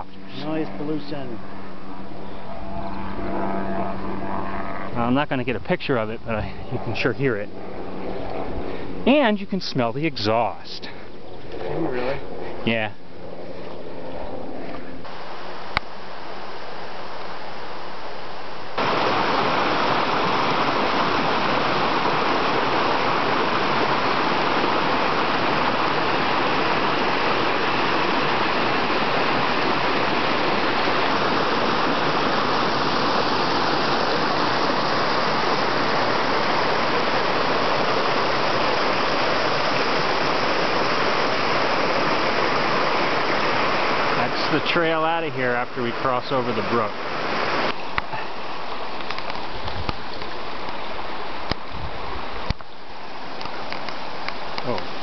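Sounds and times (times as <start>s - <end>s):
brook running water: 0.0s - 11.7s, 15.0s - 55.0s.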